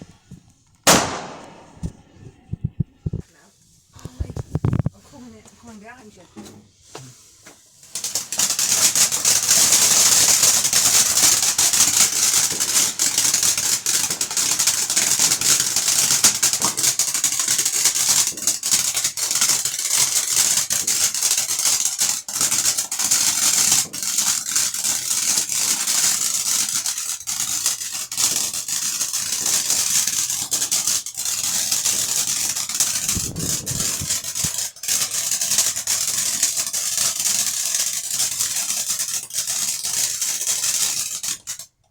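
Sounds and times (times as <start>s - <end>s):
fireworks crackling: 0.0s - 41.8s.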